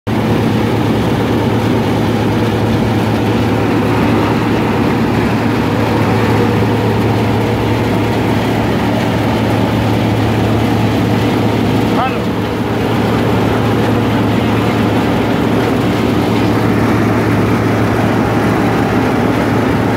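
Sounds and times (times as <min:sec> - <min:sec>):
thresher mechanical drone: 0:00.1 - 0:19.9.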